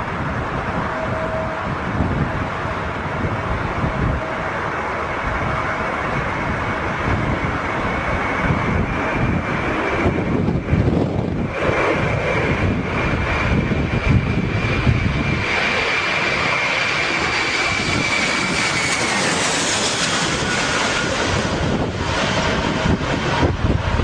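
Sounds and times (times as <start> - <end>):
jet engines roaring and whining: 0.0 - 24.0
low rumble: 0.0 - 24.0.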